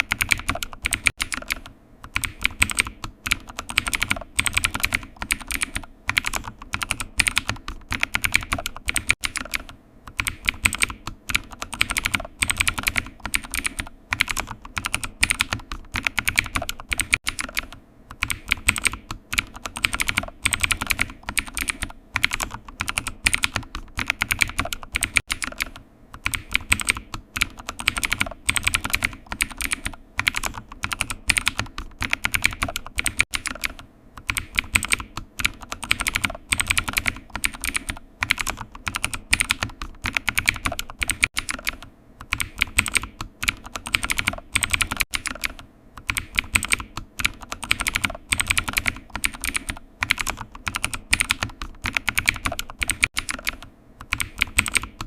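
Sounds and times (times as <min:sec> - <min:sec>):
typing on computer keyboard: 0:00.0 - 0:55.0.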